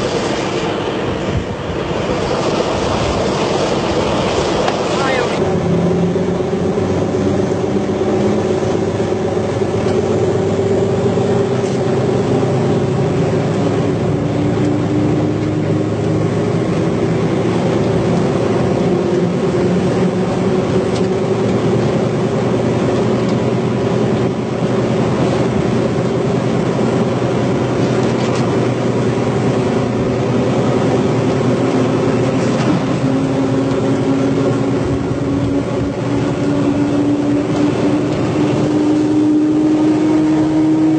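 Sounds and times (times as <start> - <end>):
diesel train engine drone: 0.0 - 40.9.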